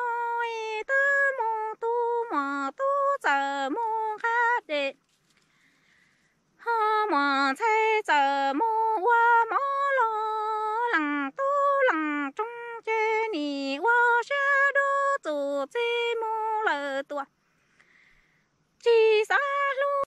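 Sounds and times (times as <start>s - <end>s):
woman singing unaccompanied: 0.0s - 5.0s, 6.6s - 17.4s, 18.8s - 20.0s.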